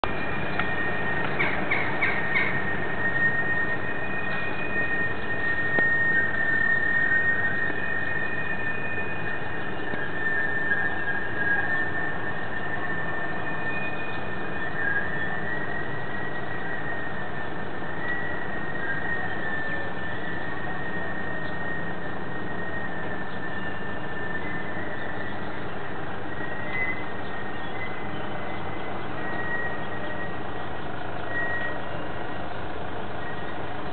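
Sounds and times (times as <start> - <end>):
high whining tone: 0.0 - 33.9
noisy rumbling drone: 0.0 - 33.9.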